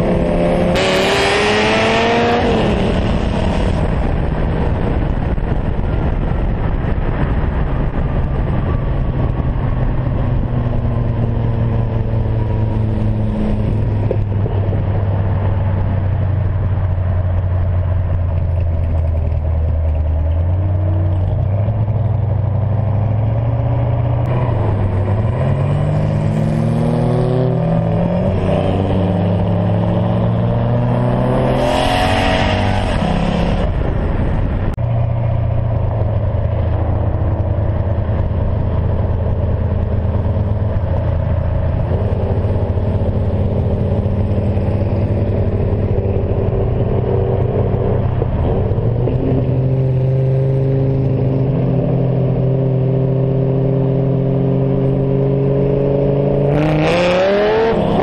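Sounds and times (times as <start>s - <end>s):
car engine accelerating hard: 0.0s - 58.0s.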